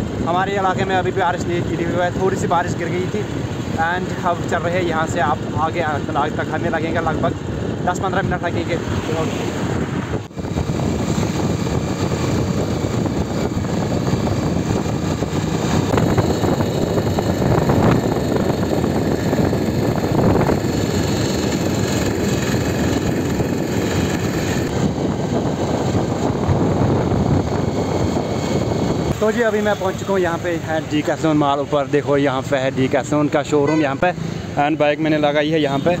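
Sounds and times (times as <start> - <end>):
wind rushing over microphone: 0.0 - 34.6
road noise: 0.0 - 36.0
motorbike engine: 2.5 - 36.0.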